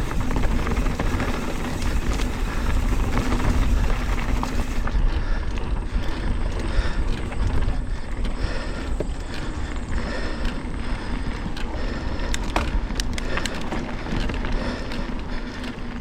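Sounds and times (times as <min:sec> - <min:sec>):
wind buffeting microphone: 0:00.0 - 0:15.4
bike rattling on dirt trail: 0:00.0 - 0:16.0.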